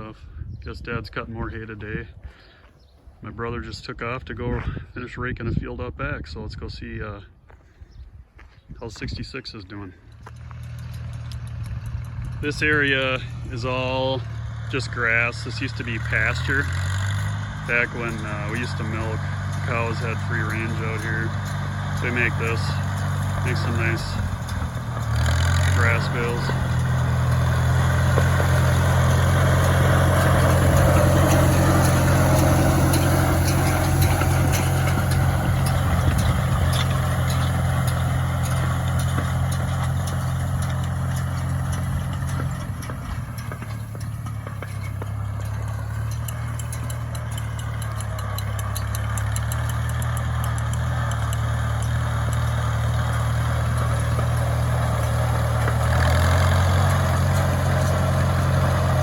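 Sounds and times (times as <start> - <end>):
tractor engine running: 9.7 - 59.0.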